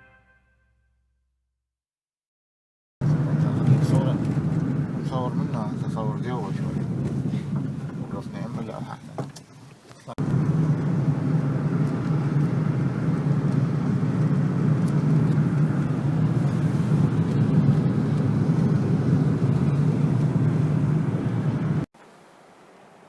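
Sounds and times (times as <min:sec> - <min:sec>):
car engine: 0:03.0 - 0:21.9
road noise: 0:03.0 - 0:23.0.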